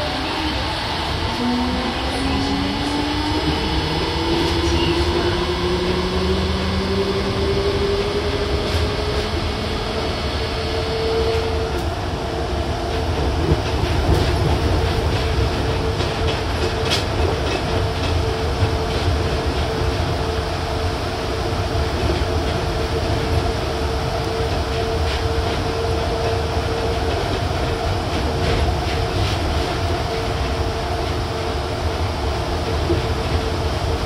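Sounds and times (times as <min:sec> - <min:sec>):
train inverter and motors whining: 0:00.0 - 0:34.0.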